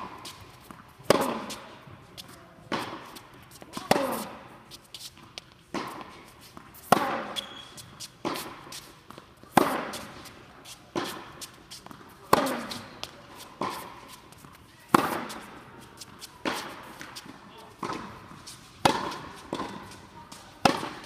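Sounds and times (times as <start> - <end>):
racquet hitting tennis ball: 0.0 - 21.0
shoes scuffing on court: 0.0 - 21.0
tennis ball bouncing: 0.0 - 21.0.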